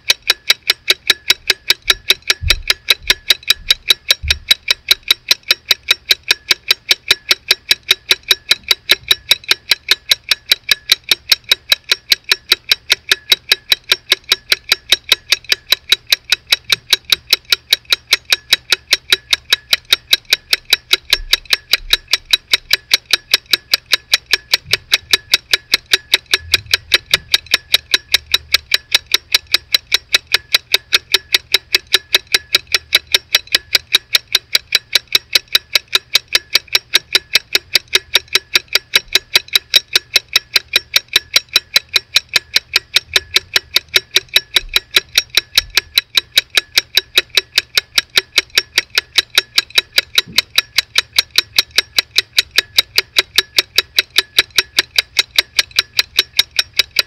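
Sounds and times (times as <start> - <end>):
pocket watch ticking: 0.0 - 57.0.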